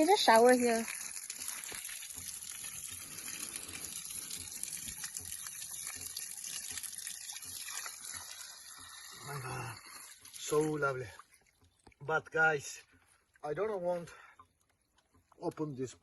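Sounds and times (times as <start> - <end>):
water gushing from pipe: 0.0 - 16.0.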